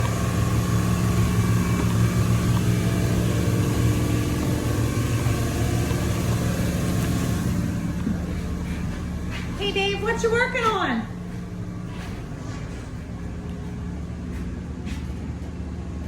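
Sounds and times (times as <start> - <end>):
shop machine motor humming: 0.0 - 16.0.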